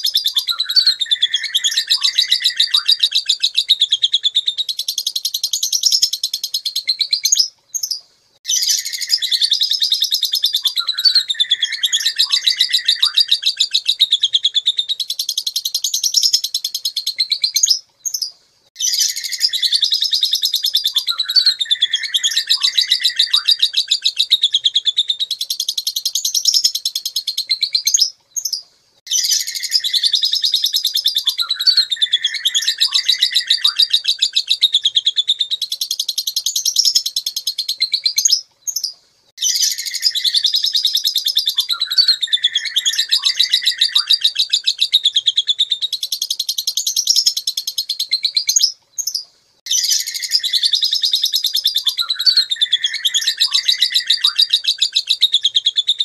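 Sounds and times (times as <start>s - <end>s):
lovebird chattering song: 0.0s - 56.0s.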